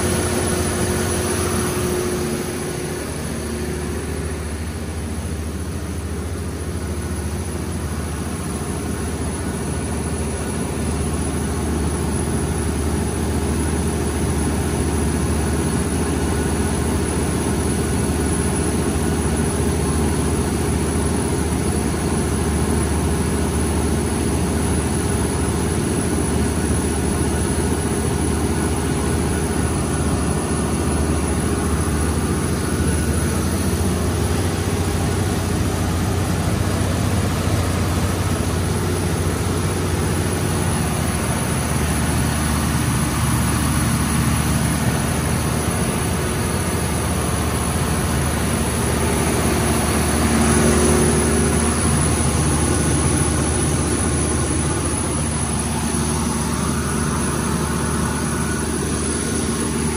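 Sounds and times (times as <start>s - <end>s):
diesel generator engine drone: 0.0s - 59.9s.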